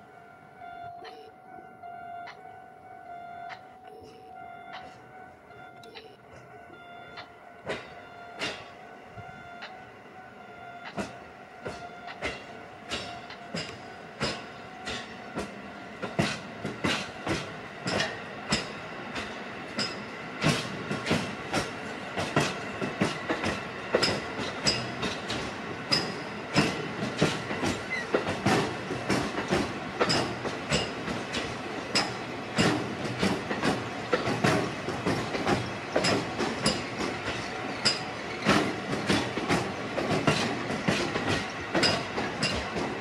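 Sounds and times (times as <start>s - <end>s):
train wheels clicking over rail joints: 4.8s - 9.9s, 10.8s - 43.0s.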